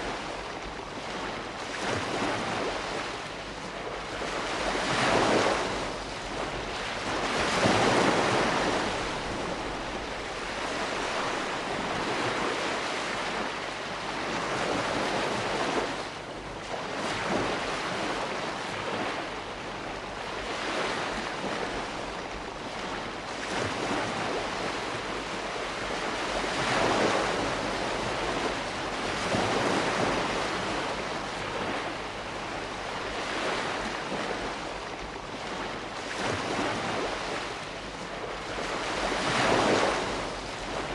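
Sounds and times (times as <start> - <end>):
gentle waves breaking: 0.0 - 40.9.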